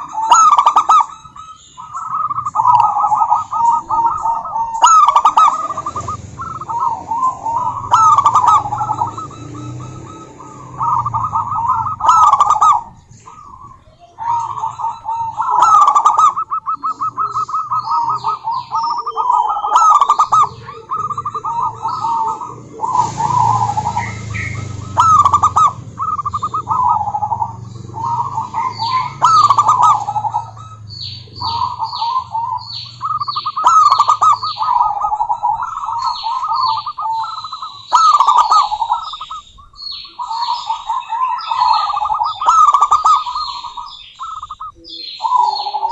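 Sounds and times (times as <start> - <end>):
doves cooing: 0.0 - 45.9
small bird chirping: 0.0 - 45.9.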